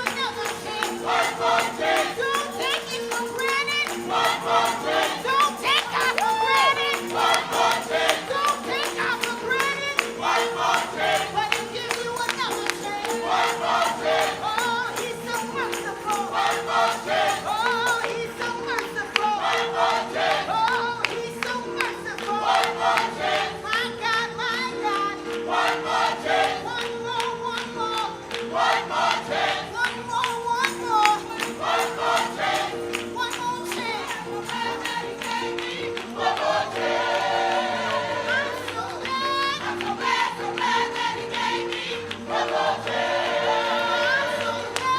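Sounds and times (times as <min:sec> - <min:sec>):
percussion beat: 0:00.0 - 0:23.8, 0:25.2 - 0:44.9
voices singing: 0:00.0 - 0:44.9.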